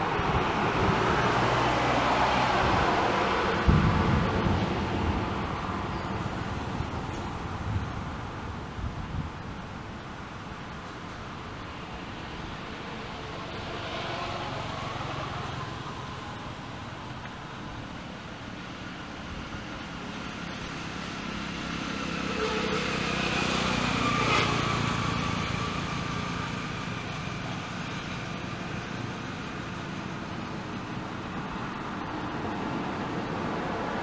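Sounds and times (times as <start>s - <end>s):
motor vehicle passing: 0.0s - 8.7s, 11.8s - 34.0s.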